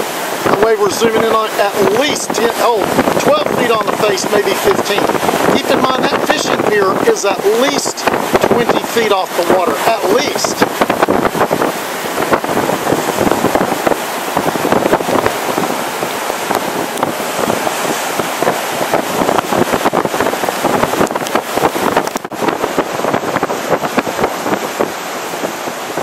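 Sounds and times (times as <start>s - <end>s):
heavy breaking surf: 0.0s - 26.0s
rain: 0.0s - 26.0s
wind buffeting microphone: 0.0s - 26.0s.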